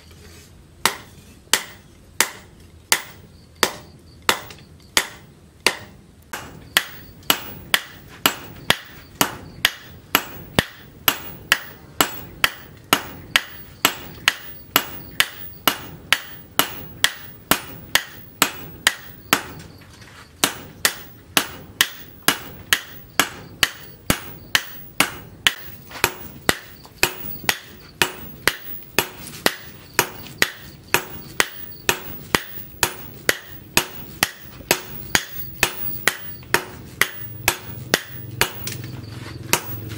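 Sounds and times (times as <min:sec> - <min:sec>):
hammer blows on hot metal: 0:00.8 - 0:39.9.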